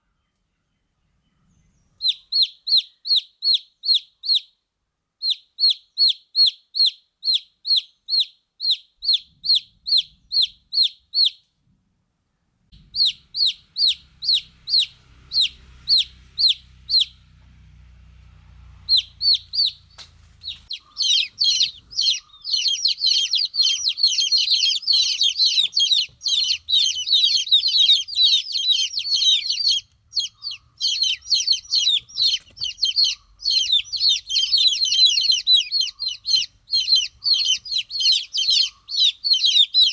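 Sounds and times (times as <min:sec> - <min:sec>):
baby chicks peeping: 0:01.8 - 0:04.6, 0:05.2 - 0:11.5, 0:12.7 - 0:17.6, 0:18.7 - 0:39.9.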